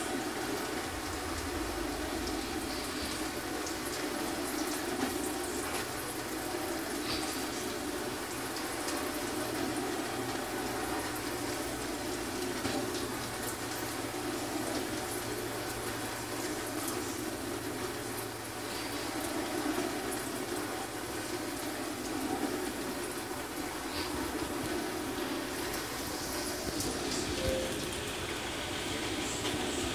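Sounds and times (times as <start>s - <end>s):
popcorn popper sizzling hiss: 0.0s - 29.9s.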